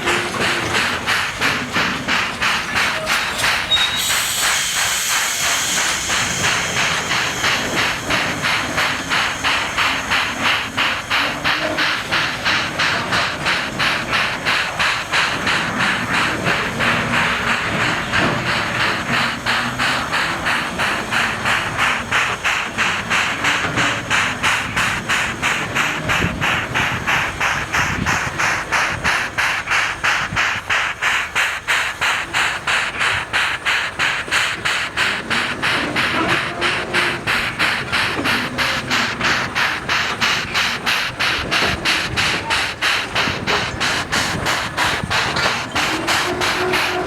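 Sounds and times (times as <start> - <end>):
steam locomotive chuffing: 0.0 - 47.0.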